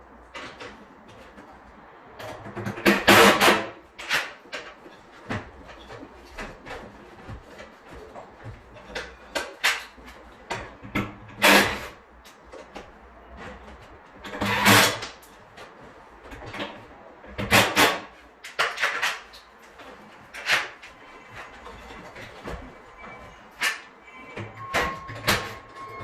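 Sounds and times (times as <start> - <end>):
tools knocking and clattering: 0.2 - 26.0.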